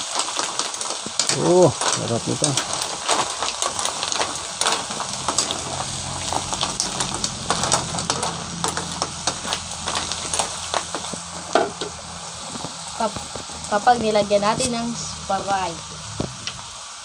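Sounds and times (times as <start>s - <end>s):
mussel shells clattering in wok: 0.0s - 13.6s
steady sizzle: 0.0s - 17.0s.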